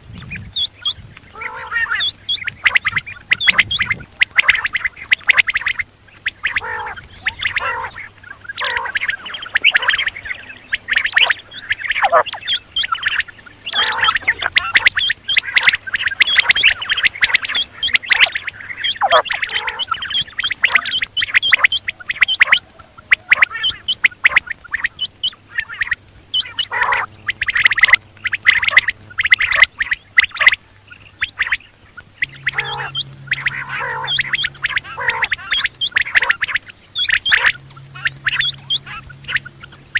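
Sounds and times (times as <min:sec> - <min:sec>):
quail calling: 0:00.2 - 0:39.9.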